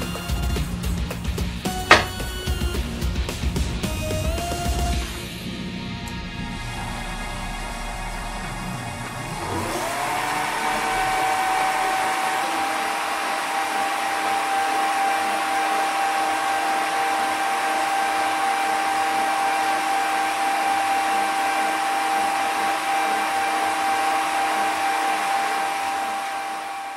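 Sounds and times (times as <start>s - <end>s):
electric motor whine: 1.7s - 2.7s, 6.1s - 26.9s.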